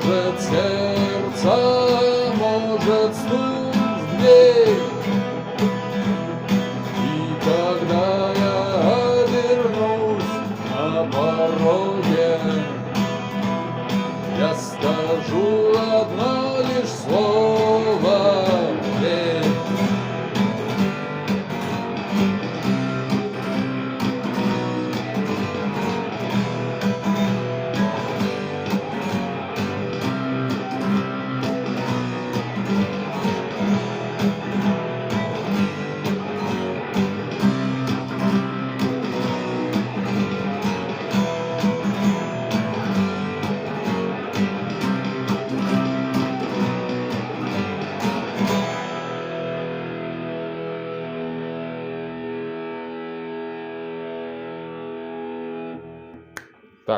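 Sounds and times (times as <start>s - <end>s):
strummed guitar: 0.0s - 56.9s.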